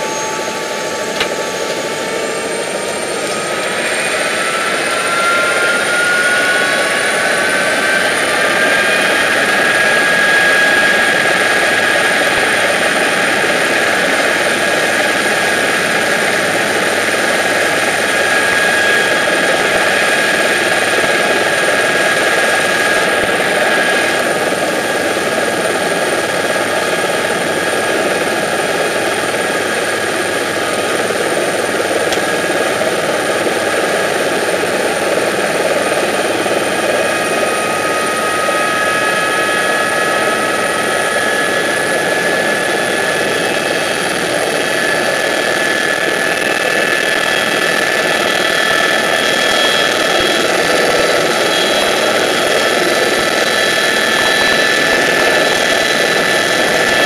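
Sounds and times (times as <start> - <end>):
helicopter turbine and rotor: 0.0 - 57.0.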